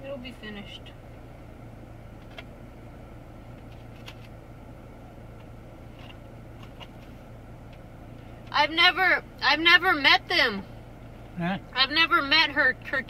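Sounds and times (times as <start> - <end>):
car cabin hum: 0.0 - 13.0.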